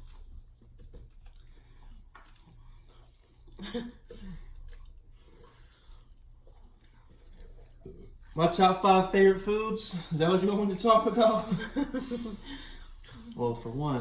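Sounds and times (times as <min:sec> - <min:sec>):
close chewing and mouth sounds: 0:00.0 - 0:14.0.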